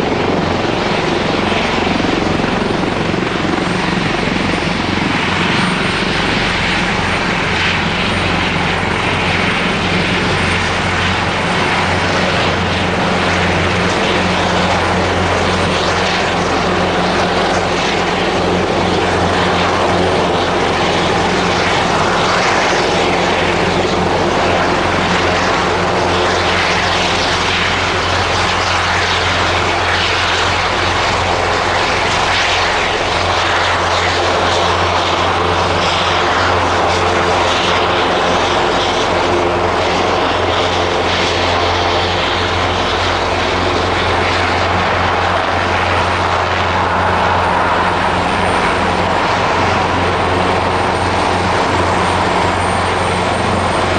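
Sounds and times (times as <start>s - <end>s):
helicopter rotor and turbine: 0.0s - 53.9s.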